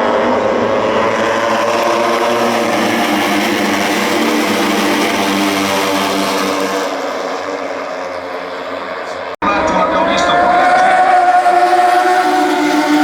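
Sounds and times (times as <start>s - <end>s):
racing motorcycle engines: 0.0s - 13.0s
track noise: 0.0s - 13.0s.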